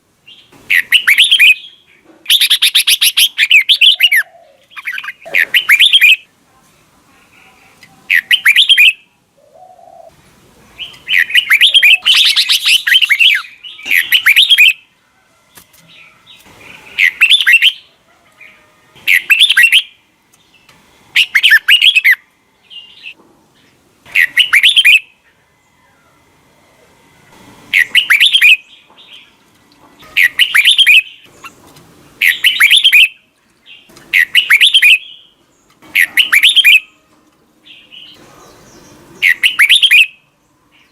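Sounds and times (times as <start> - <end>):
bird singing: 0.2 - 6.3, 7.4 - 10.2, 10.8 - 14.9, 15.9 - 26.3, 27.7 - 29.4, 30.0 - 40.9.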